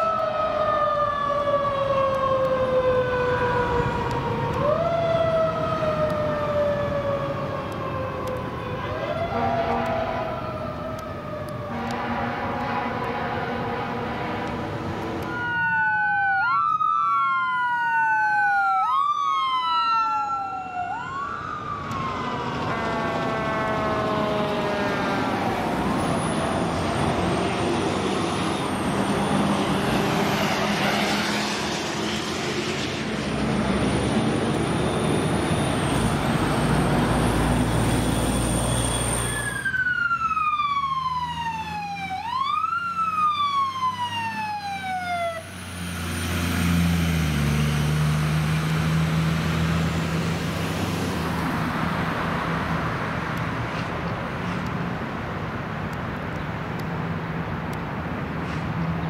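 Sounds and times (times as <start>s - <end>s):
ambulance siren wailing: 0.0s - 32.9s, 33.8s - 53.0s
fire truck siren slow wail: 0.0s - 58.6s
engine and road noise: 0.0s - 59.0s.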